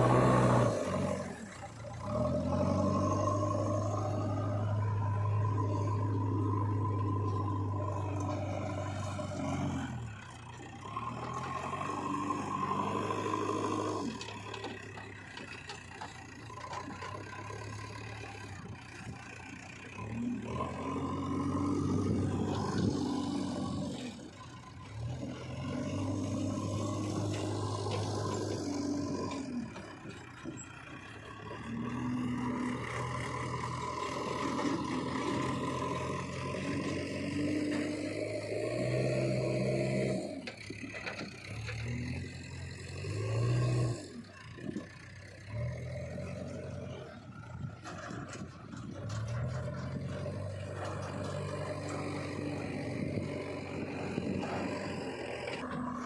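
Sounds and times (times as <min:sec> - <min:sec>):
diesel digger engine under load: 0:00.0 - 0:56.0.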